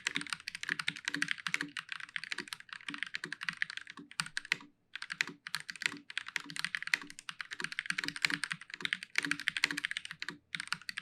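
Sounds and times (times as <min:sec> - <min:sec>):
fast mechanical keyboard typing: 0:00.0 - 0:11.0.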